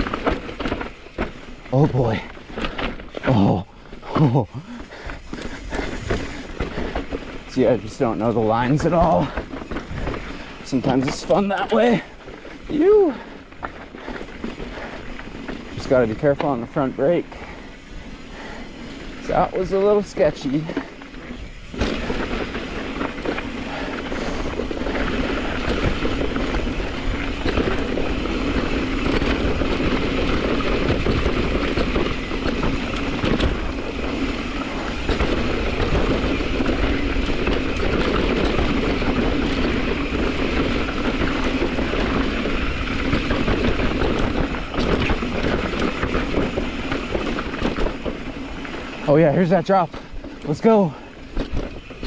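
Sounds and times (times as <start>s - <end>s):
bike knocking and rattling: 0.0s - 52.0s
bike tyres on dirt and stones: 0.0s - 52.0s.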